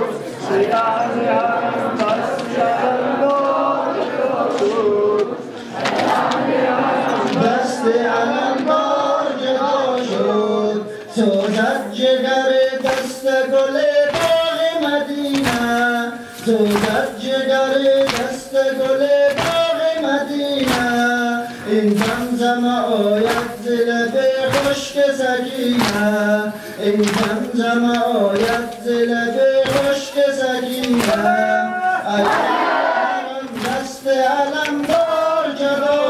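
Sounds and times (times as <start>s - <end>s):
person singing a mourning lament: 0.0s - 6.0s, 6.7s - 36.0s.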